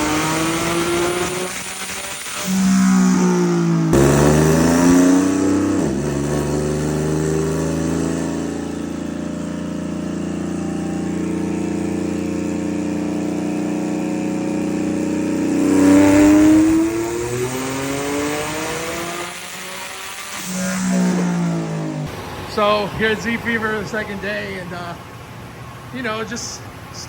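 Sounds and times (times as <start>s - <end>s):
engine revving at full throttle: 0.0s - 22.3s.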